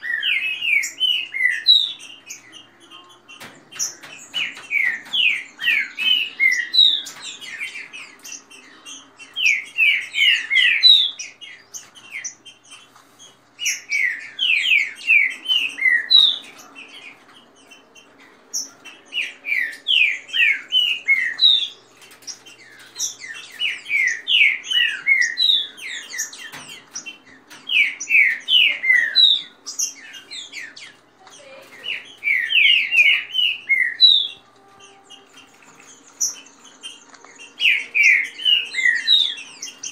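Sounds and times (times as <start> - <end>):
birds singing whistled notes: 0.0 - 39.9.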